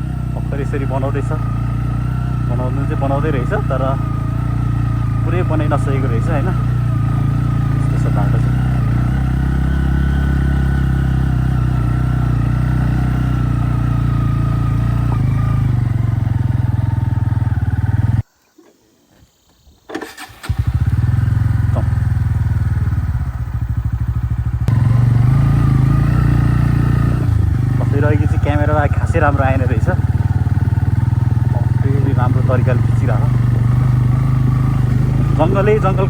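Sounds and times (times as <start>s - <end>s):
motorcycle engine running: 0.0s - 18.2s, 20.1s - 36.0s.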